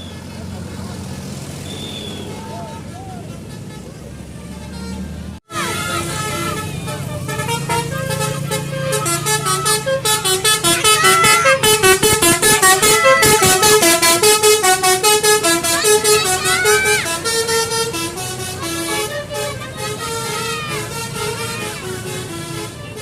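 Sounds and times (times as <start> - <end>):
musical air horn melody: 3.4 - 23.0.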